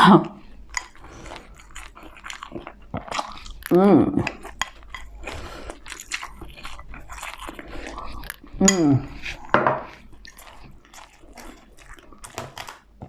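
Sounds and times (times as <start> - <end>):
chewing and crunching food: 0.2 - 13.0.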